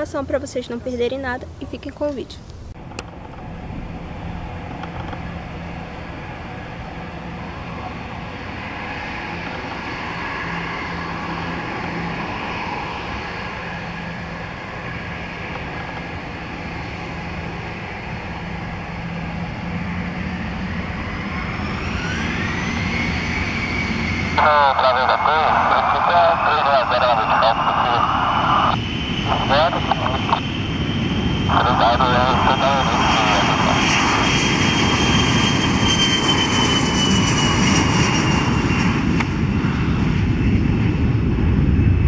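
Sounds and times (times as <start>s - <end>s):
jet engines running: 0.0s - 42.0s
jet engines spooling up whine: 0.0s - 42.0s.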